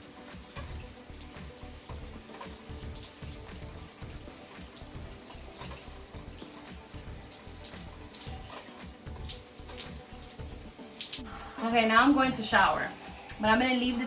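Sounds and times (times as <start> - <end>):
shower water running: 0.0 - 14.0.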